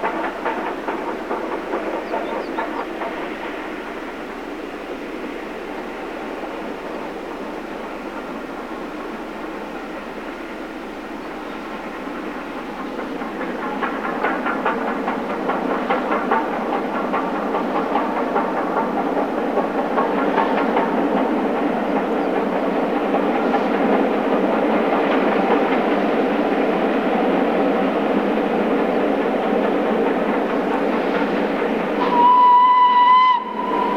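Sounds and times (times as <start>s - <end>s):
steam train rumble: 0.0s - 33.9s
train wheels clickety-clack over rail joints: 0.0s - 33.9s.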